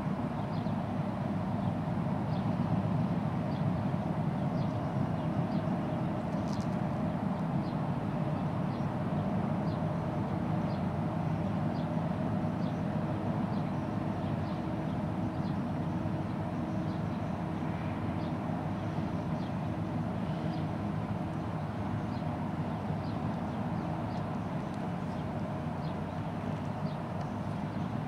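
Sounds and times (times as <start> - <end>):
ship engines low drone: 0.0 - 28.0.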